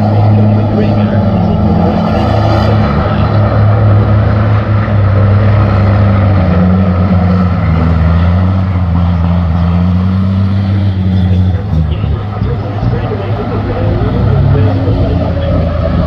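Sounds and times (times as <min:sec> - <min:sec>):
heavy truck engine droning: 0:00.0 - 0:16.0.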